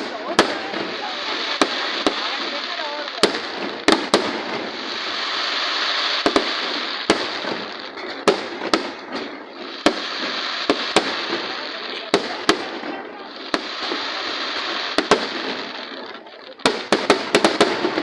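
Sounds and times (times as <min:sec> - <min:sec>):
continuous hiss: 0:00.0 - 0:18.0
fireworks bangs: 0:00.0 - 0:18.0.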